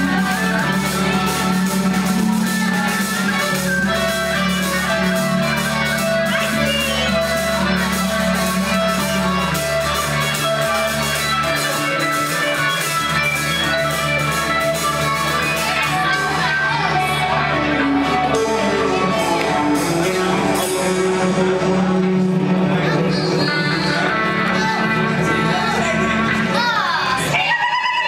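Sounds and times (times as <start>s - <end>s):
steady percussion beat: 0.0s - 22.8s
guitar: 0.0s - 28.0s.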